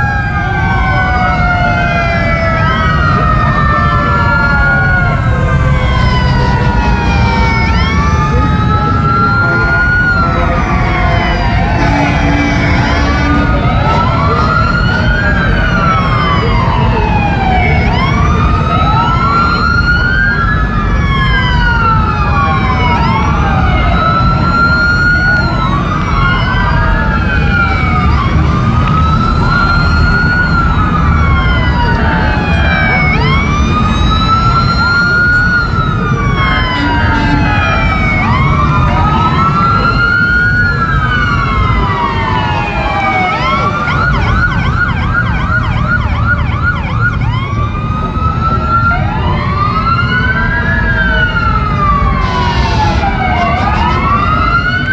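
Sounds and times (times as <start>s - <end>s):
emergency sirens wailing: 0.0s - 54.9s.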